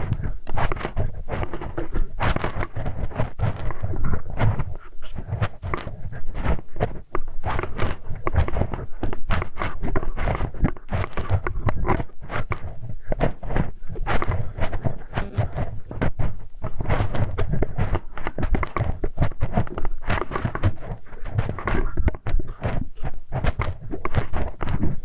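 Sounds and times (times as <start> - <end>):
scratching and rubbing at microphone: 0.0 - 25.0.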